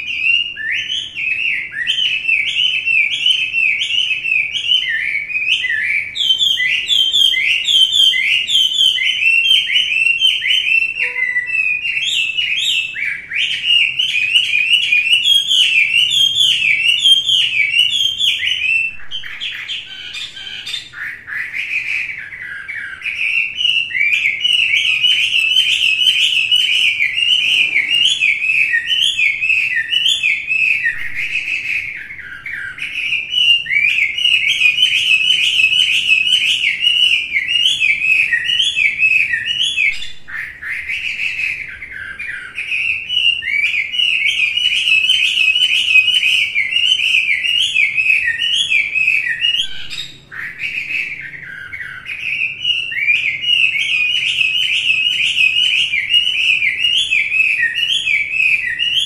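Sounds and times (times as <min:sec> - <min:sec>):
bird singing whistled trills: 0:00.0 - 0:59.0.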